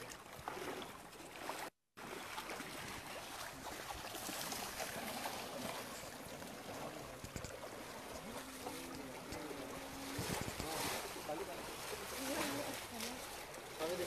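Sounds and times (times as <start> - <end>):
river water splashing around legs: 0.0 - 14.0.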